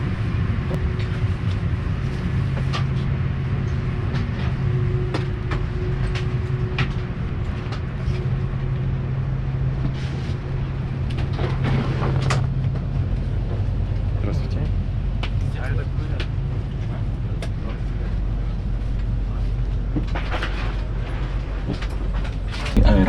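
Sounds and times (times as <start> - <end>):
airliner cabin hum: 0.0 - 23.0.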